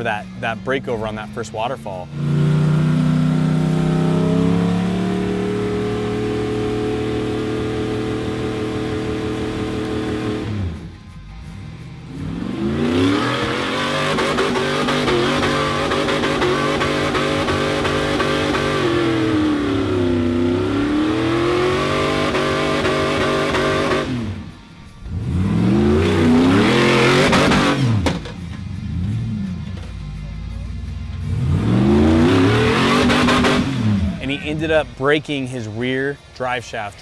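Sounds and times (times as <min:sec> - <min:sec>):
engine revving hard: 0:00.0 - 0:11.0, 0:12.0 - 0:29.9, 0:31.1 - 0:36.4.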